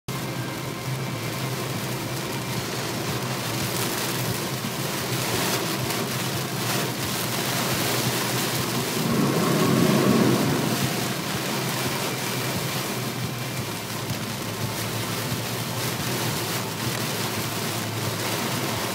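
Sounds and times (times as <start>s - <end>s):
heavy rain on car roof: 0.1s - 18.9s
tyres hissing on wet road: 0.1s - 18.9s.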